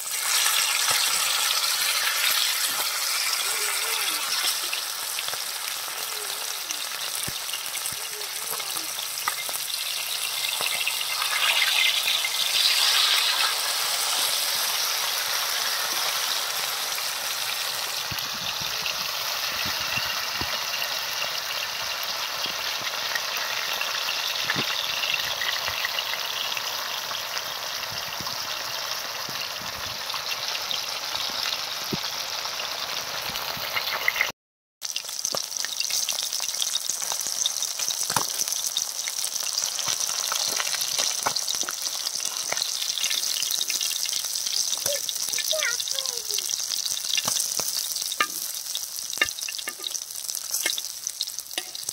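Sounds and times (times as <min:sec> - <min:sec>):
fish sizzling in hot oil: 0:00.0 - 0:51.9.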